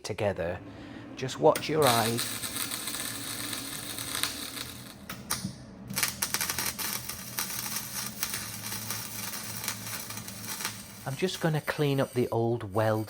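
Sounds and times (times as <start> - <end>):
arc welder crackling: 0.4 - 13.0.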